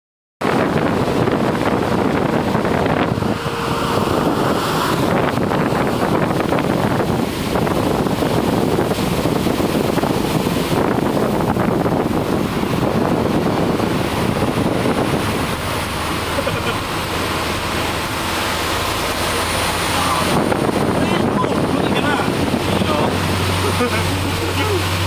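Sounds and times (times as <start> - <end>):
truck driving in rain: 0.4 - 25.0
wind buffeting microphone: 0.4 - 25.0.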